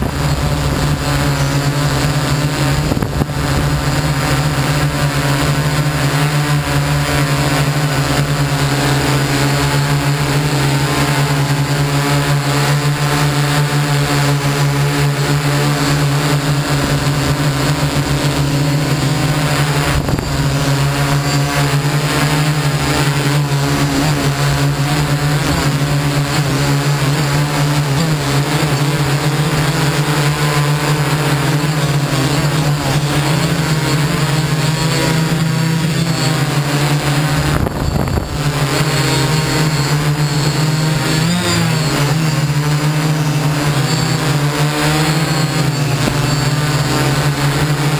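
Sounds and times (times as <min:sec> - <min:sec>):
drone motors humming: 0:00.0 - 0:47.9.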